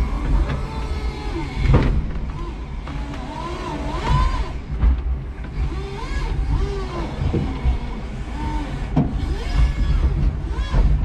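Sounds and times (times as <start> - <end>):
forklift low rumble: 0.0 - 11.0
forklift whine: 0.0 - 11.0.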